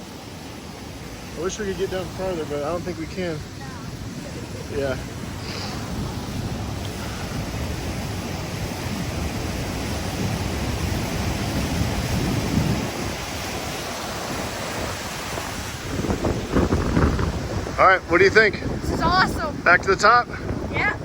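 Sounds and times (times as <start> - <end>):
flooded creek rushing through rocks: 0.0 - 21.0
wind buffeting the microphone: 0.0 - 21.0.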